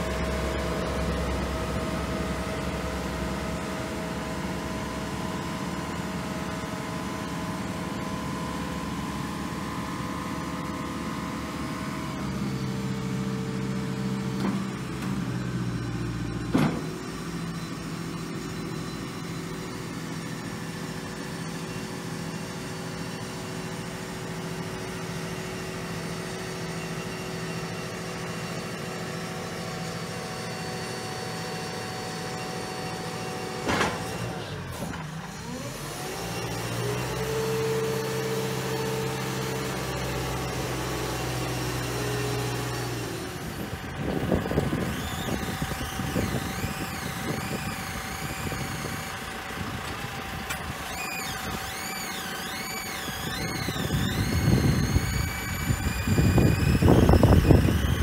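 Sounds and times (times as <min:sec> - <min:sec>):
boom hydraulics working: 0:00.0 - 0:58.0
diesel engine running: 0:00.0 - 0:58.0.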